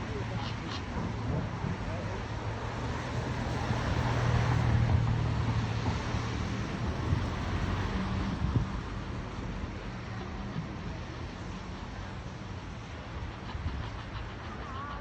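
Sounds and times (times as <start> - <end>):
city rumble with hiss: 0.0 - 15.0.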